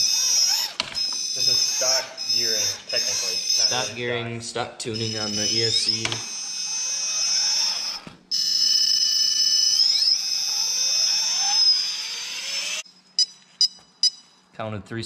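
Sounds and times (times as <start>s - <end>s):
electric motor whining: 0.0s - 12.8s.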